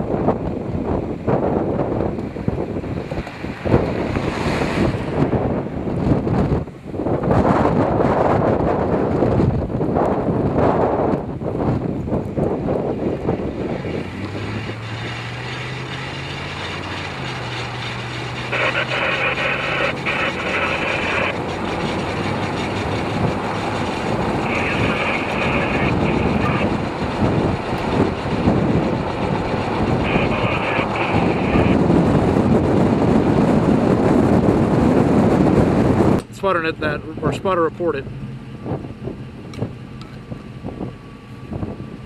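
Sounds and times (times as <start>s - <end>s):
road rumble on dirt road: 0.0s - 42.0s
vehicle engine hum: 0.0s - 42.0s.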